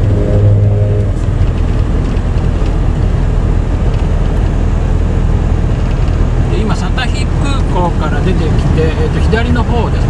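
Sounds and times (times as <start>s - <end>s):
engine rumble inside truck cab: 0.0s - 10.0s.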